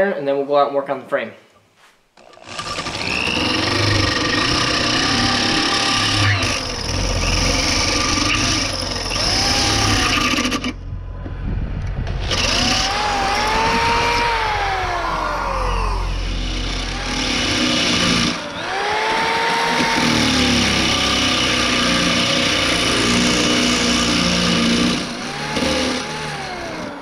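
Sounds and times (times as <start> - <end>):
power drill motor whine: 2.2 - 10.8, 12.0 - 27.0.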